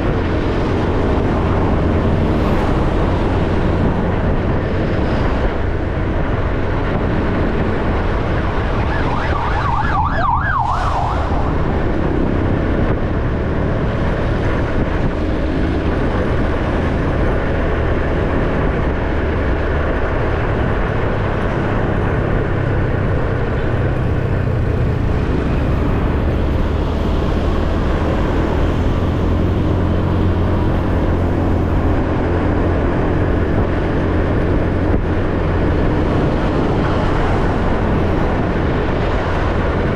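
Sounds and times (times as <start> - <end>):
motorcycle engine hum: 0.0 - 39.9
wind and road noise: 0.0 - 39.9.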